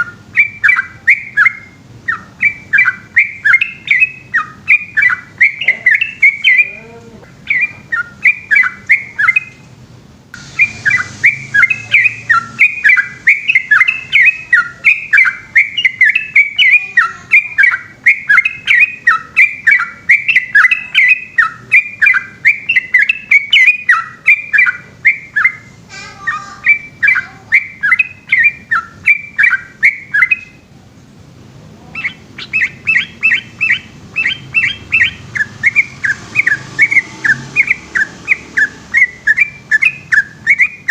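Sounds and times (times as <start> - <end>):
bird singing warbling notes: 0.0 - 9.6, 10.4 - 30.7, 31.9 - 40.9.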